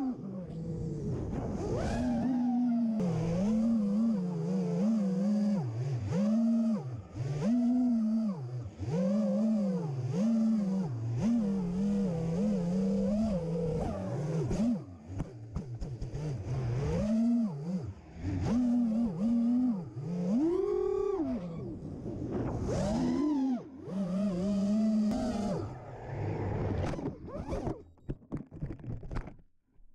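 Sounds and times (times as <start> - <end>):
drone motors buzzing whine: 0.0 - 29.3.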